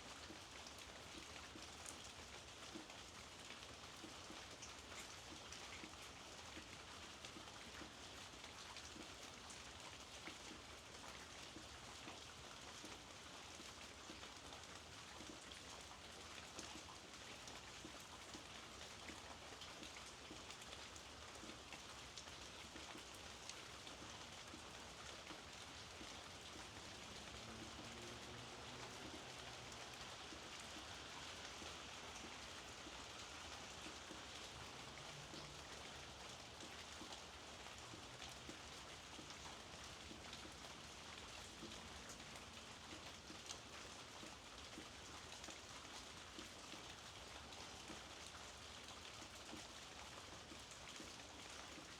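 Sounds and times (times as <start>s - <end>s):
raindrops ticking on surfaces: 0.0s - 51.9s
soft rainfall: 0.0s - 51.9s.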